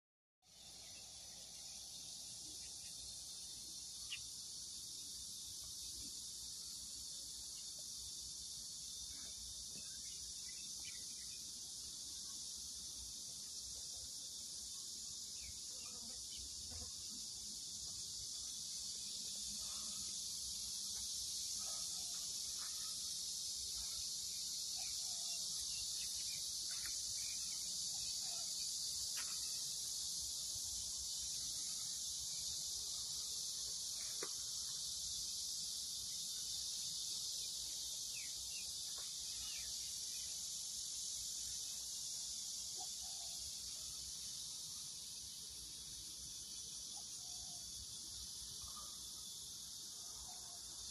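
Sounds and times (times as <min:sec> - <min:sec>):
cicadas buzzing: 0:00.5 - 0:50.9.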